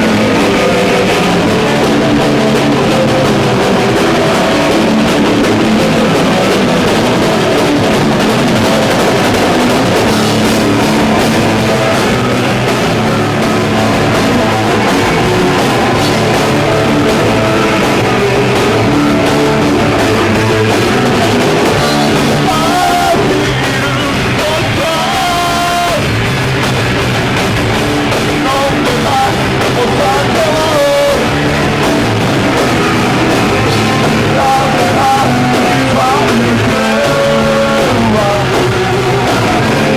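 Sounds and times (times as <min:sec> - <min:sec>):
person singing: 0:00.0 - 0:26.1, 0:28.3 - 0:39.9
drum kit: 0:00.0 - 0:39.9
loud electric guitar: 0:00.0 - 0:39.9.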